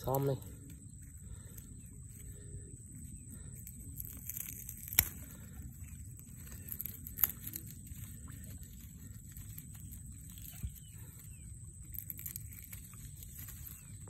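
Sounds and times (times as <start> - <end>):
faint high hum: 0.0 - 14.0.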